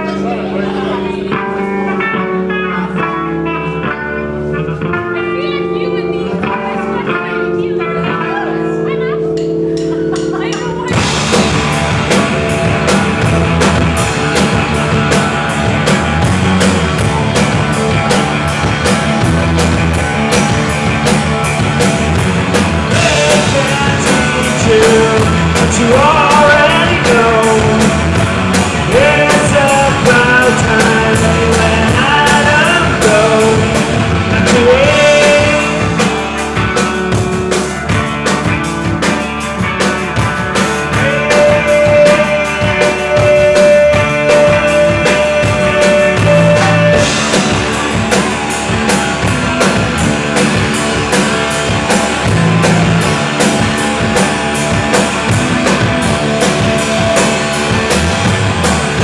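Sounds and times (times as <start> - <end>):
drum kit: 0.0 - 59.0
electric guitars: 0.0 - 59.0
live rock band playing: 0.0 - 59.0.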